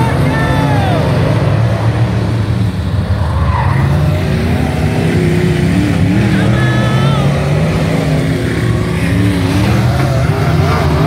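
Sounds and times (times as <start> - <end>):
race car engines running loud: 0.0 - 11.0.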